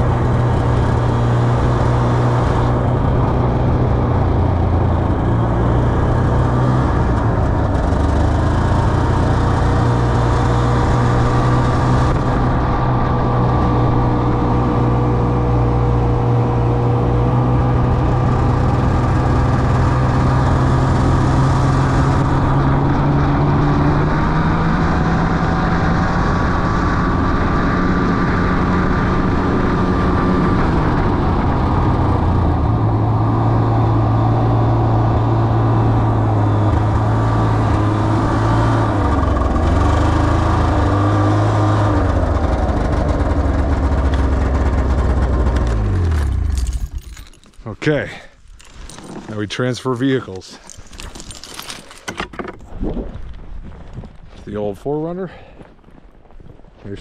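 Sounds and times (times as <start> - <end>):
snowmobile engine running: 0.0 - 51.7.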